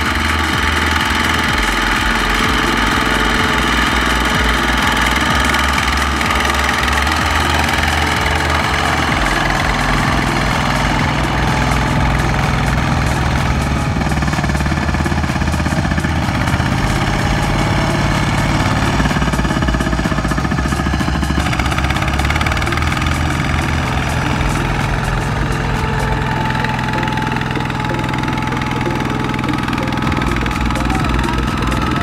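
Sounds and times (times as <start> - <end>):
single-cylinder diesel engine chugging: 0.0 - 32.0.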